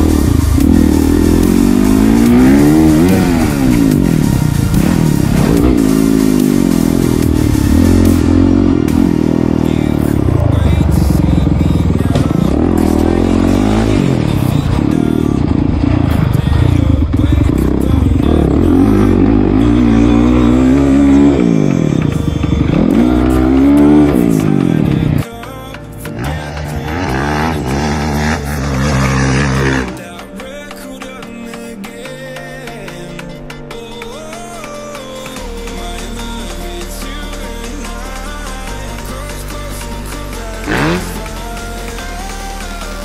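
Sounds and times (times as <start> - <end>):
dirt bike engine revving: 0.0 - 25.3, 26.0 - 30.2, 35.7 - 43.0.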